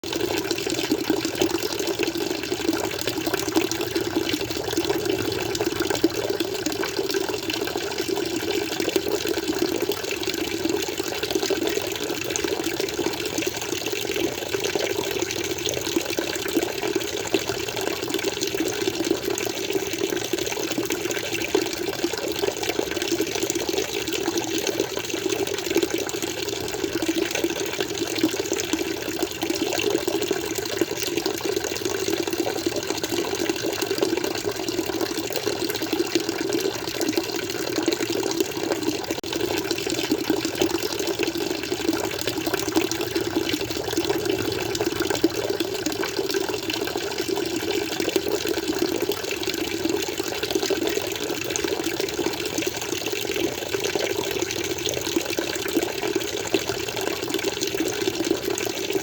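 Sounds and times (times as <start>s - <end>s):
aquarium water flowing: 0.0s - 59.0s.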